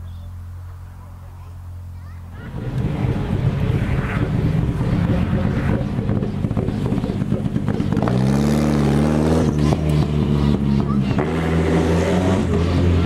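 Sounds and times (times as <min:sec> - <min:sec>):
rally car engines running rough: 0:00.0 - 0:13.0.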